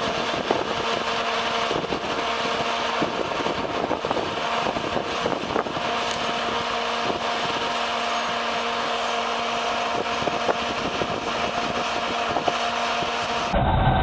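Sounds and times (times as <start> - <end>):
machine engine whining: 0.0 - 14.0.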